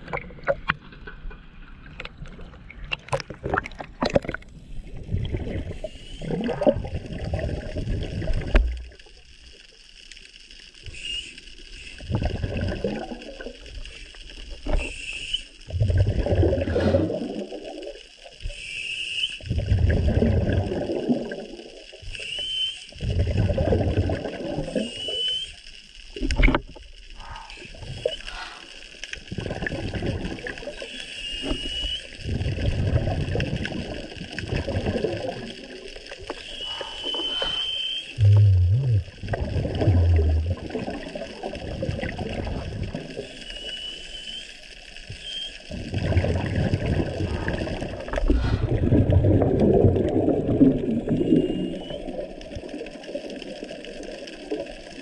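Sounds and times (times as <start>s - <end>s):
water splashes: 0.0s - 18.7s, 19.3s - 55.0s
underwater bubbles gurgling: 0.0s - 55.0s.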